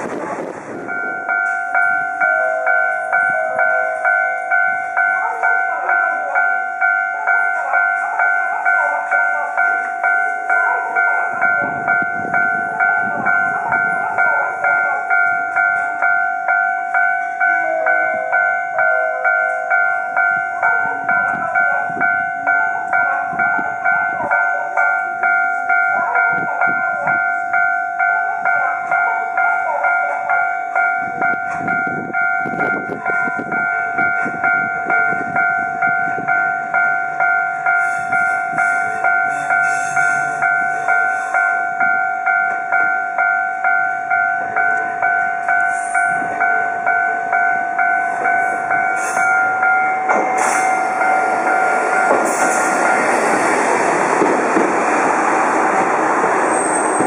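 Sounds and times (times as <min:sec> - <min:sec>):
diesel railcar approaching: 0:00.0 - 0:57.0
level crossing bell ringing: 0:00.8 - 0:57.0.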